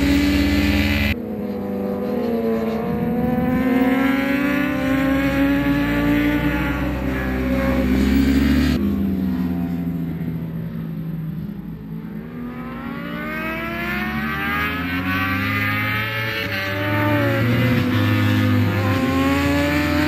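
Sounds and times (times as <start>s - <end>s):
superbike engines at high revs: 0.0s - 8.9s, 12.1s - 20.0s.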